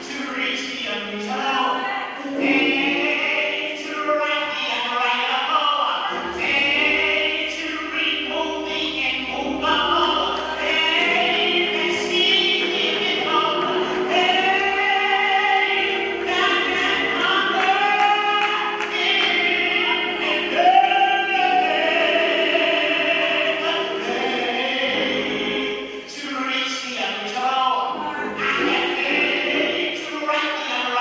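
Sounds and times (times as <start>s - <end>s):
choir singing gospel: 0.0s - 31.0s.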